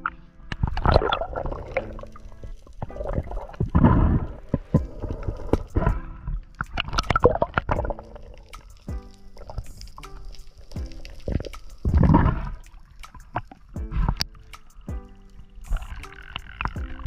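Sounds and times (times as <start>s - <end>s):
water gurgling and sloshing: 0.0s - 17.0s.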